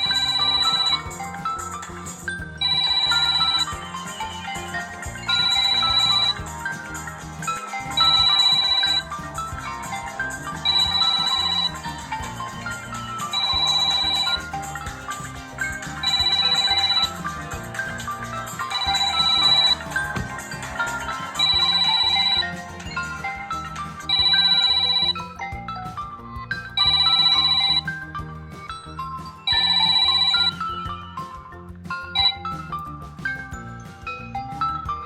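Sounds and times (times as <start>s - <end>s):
musical phone ringtone: 0.0s - 35.0s.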